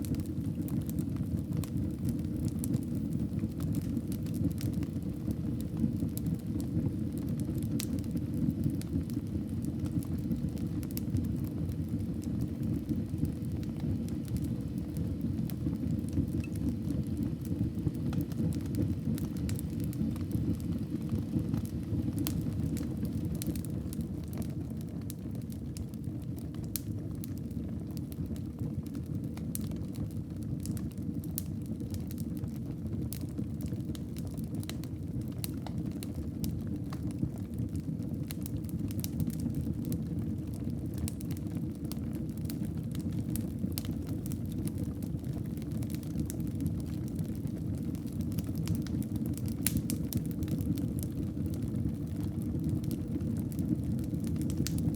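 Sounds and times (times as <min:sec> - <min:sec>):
burning wood crackling: 0:00.0 - 0:28.1, 0:38.3 - 0:54.9
fire rumbling: 0:00.0 - 0:54.9.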